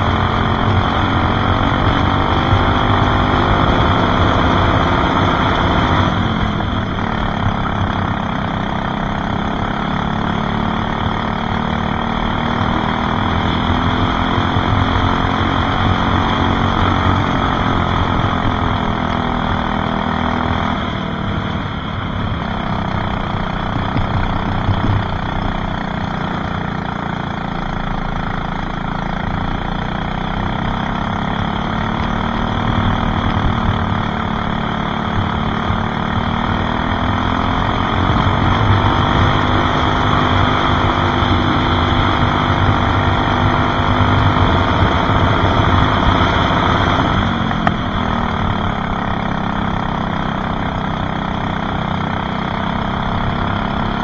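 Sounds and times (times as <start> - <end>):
kart engine under hard throttle: 0.0 - 54.0.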